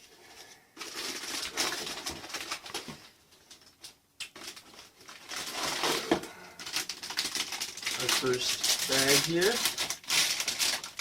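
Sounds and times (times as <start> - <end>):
cardboard and plastic rustling: 0.3 - 11.0.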